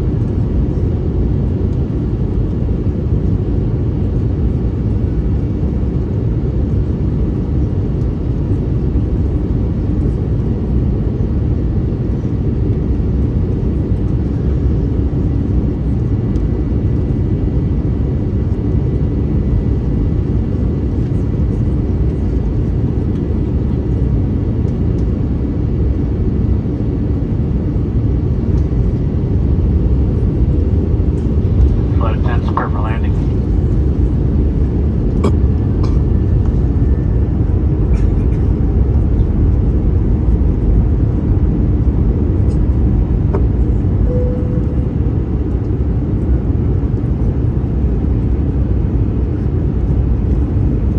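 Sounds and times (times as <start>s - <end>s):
airliner cabin rumble: 0.0s - 50.9s.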